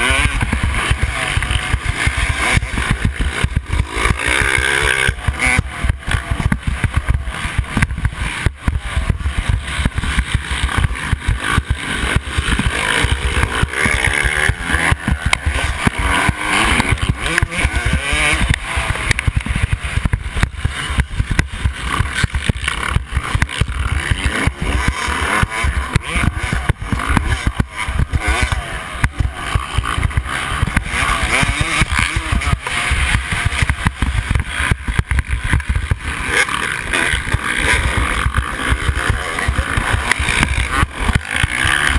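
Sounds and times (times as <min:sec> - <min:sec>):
motocross bike engine revving: 0:00.0 - 0:41.9
rough buffeting: 0:00.0 - 0:41.9.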